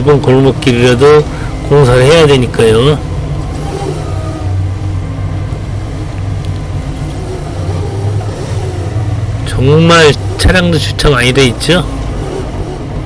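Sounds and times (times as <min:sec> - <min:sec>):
forklift engine humming: 0:00.0 - 0:13.0.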